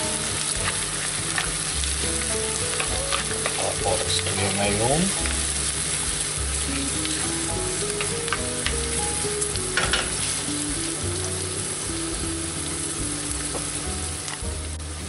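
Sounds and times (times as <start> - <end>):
meat sizzling in a frying pan: 0.0 - 15.0.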